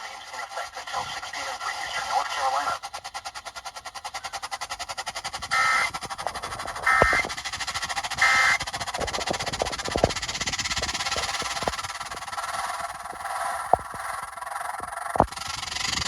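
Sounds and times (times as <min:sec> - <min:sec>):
buzzy digital data tones: 0:00.0 - 0:16.0
fast pulsing buzz: 0:00.0 - 0:16.0.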